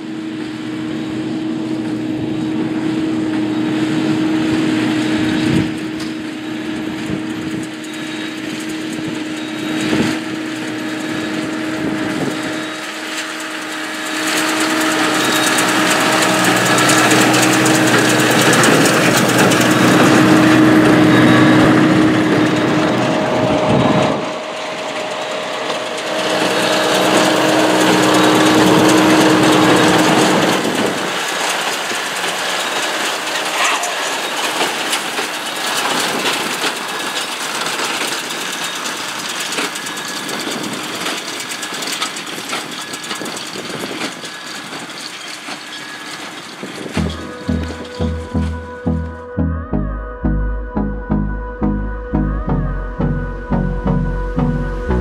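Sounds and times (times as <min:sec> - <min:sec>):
tractor engine running under load: 0:00.0 - 0:55.0
baler machinery clattering: 0:00.4 - 0:49.2.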